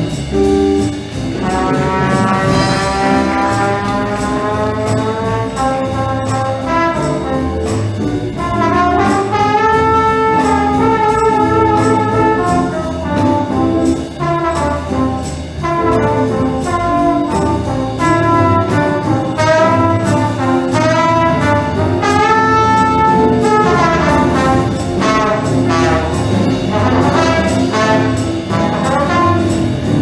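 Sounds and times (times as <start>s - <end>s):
brass band playing swing: 0.0s - 30.0s.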